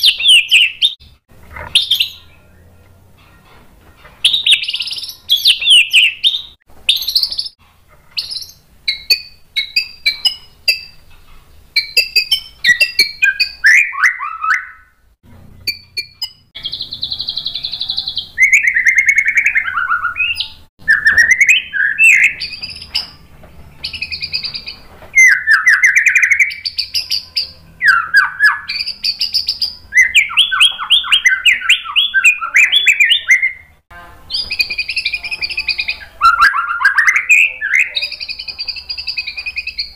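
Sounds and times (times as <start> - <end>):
bird singing whistles and trills: 0.0 - 1.0, 1.7 - 2.7, 4.2 - 7.6, 8.2 - 11.0, 11.8 - 15.0, 15.6 - 23.2, 23.8 - 39.9.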